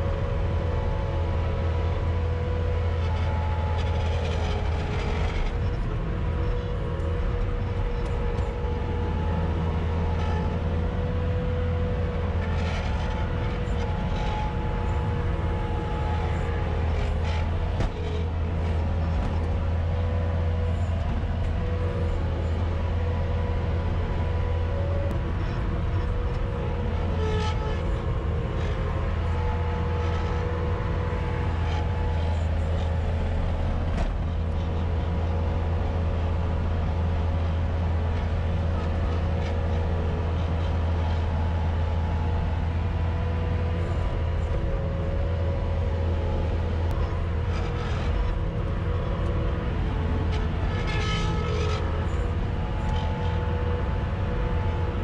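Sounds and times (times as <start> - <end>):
diesel engine droning: 0.0 - 55.0
steady whine: 0.0 - 55.0.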